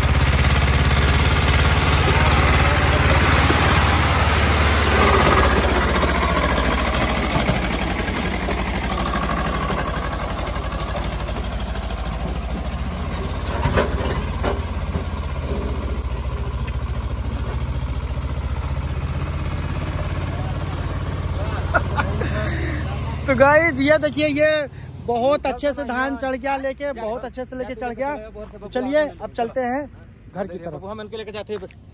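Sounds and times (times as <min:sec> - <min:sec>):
tractor diesel engine droning: 0:00.0 - 0:31.1.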